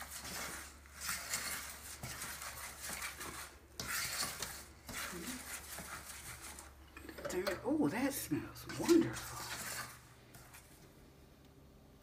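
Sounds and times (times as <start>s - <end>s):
spatula scraping a saucepan: 0.0s - 10.8s.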